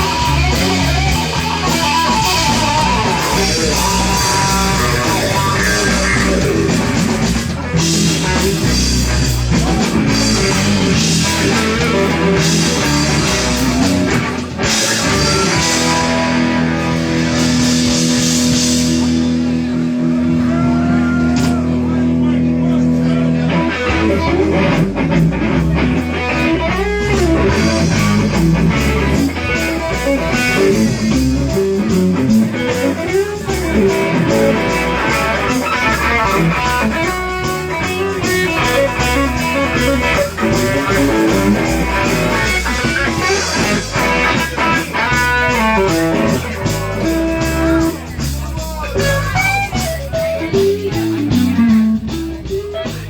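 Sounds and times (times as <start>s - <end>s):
drum beat: 0.0s - 19.5s, 24.5s - 53.0s
bass guitar: 0.0s - 53.0s
electric guitar lead: 0.0s - 53.0s.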